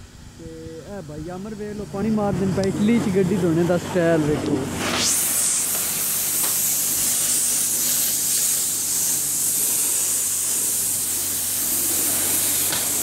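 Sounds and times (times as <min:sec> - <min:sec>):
pressure washer spraying water: 0:01.4 - 0:13.0.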